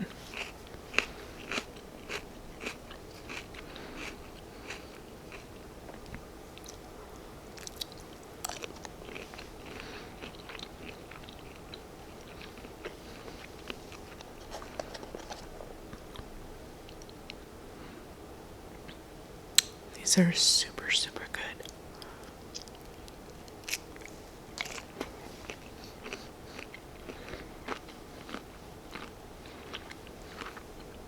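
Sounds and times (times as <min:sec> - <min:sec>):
chewing with crisp crunches: 0:00.0 - 0:17.4, 0:21.6 - 0:31.0.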